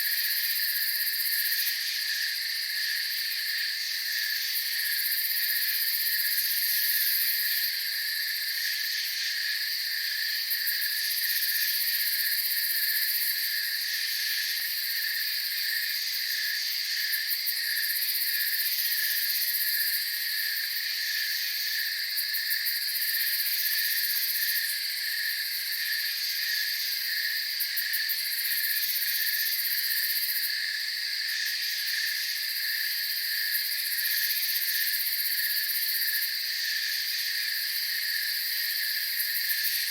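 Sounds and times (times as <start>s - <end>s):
steady high insect buzz: 0.0s - 39.9s.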